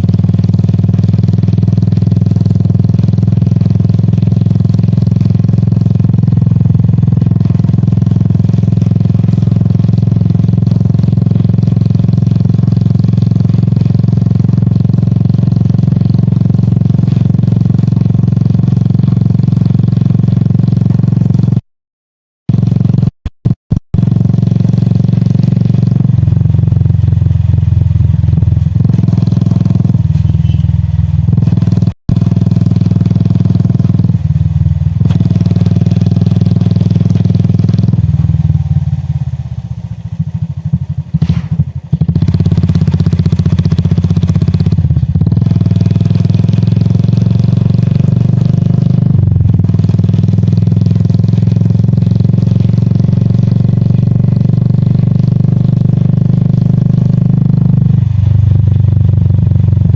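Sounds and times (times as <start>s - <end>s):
motorcycle engine running: 0.0s - 21.6s, 22.5s - 59.9s.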